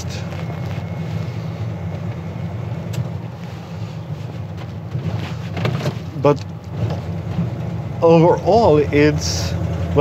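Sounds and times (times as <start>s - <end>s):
road noise: 0.0s - 10.0s
truck engine running: 0.0s - 10.0s.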